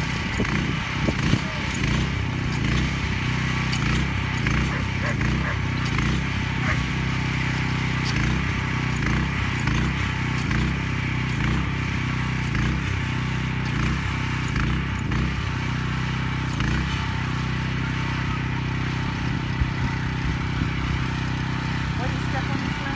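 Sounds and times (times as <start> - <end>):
small motor humming: 0.0 - 22.9.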